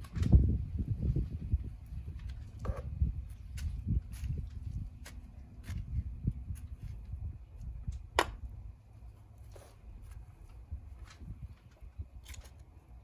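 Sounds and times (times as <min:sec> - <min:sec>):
hands rustling soil: 0:01.0 - 0:08.0, 0:08.8 - 0:13.0.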